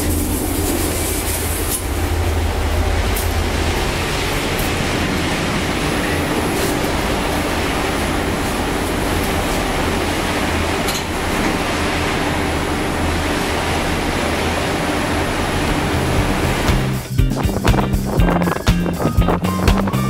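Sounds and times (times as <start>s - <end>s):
ferry machinery rumble and hiss: 0.0s - 20.0s
low hum: 0.0s - 20.0s.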